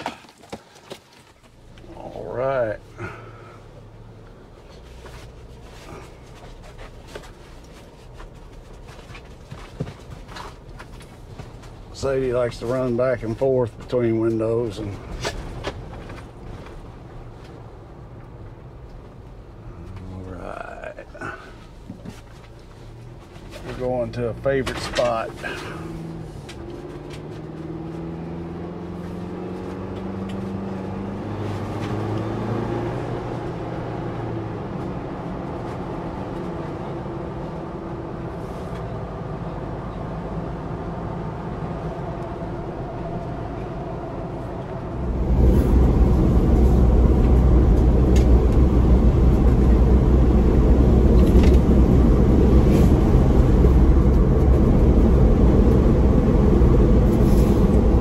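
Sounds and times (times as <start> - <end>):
road and wind noise: 0.0 - 58.0
car engine accelerating: 1.4 - 58.0.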